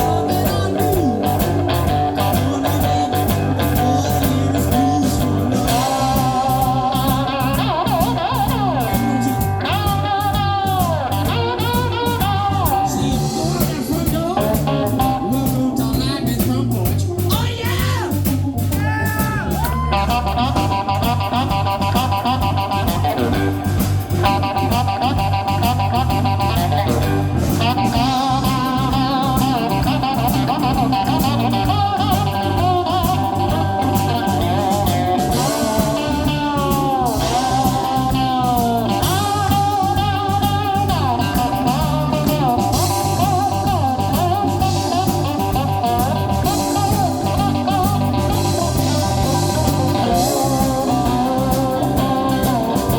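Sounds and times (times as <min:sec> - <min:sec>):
bass line: 0:00.0 - 0:52.9
slide guitar blues: 0:00.0 - 0:52.9.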